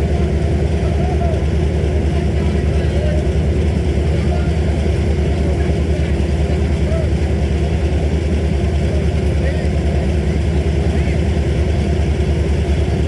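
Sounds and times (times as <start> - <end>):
heavy engine running steadily: 0.0 - 13.0.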